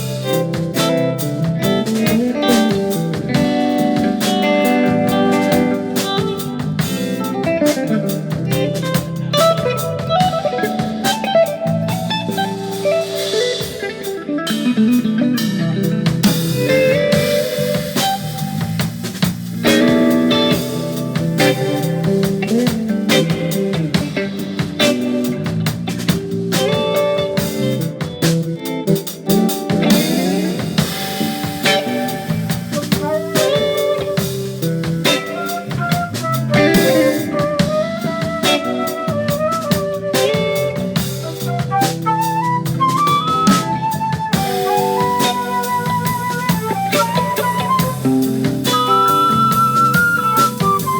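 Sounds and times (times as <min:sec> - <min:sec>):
bass: 0:00.0 - 0:50.9
drum kit with cymbals and snare: 0:00.0 - 0:50.9
guitar lines: 0:00.0 - 0:50.9.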